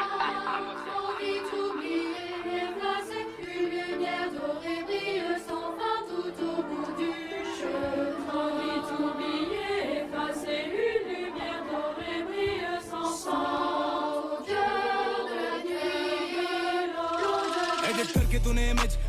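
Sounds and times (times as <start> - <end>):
choir singing held notes: 0.0 - 18.2.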